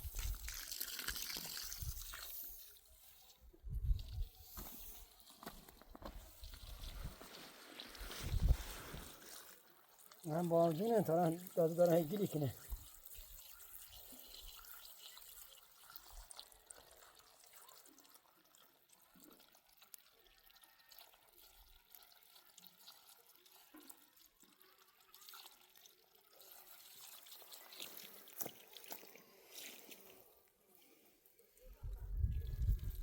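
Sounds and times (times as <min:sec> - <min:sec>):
water trickling: 0:00.0 - 0:30.3
light water drips: 0:00.0 - 0:33.0.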